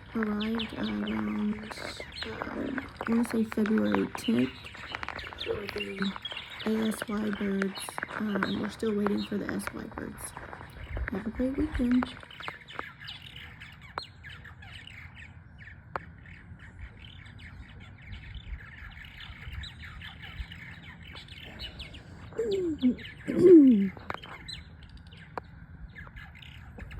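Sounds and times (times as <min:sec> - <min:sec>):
birds chattering and chirping: 0:00.0 - 0:26.9
low downward-sliding bird calls: 0:00.0 - 0:26.9.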